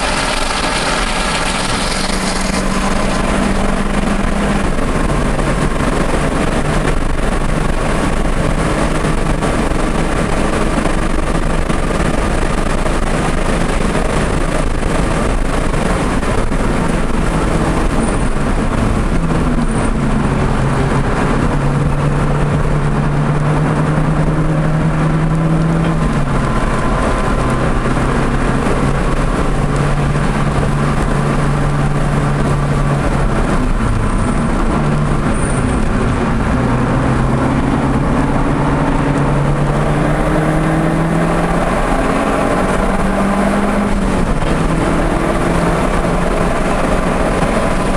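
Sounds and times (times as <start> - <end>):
car engine at speed: 0.0 - 47.9
wind rush: 0.0 - 47.9.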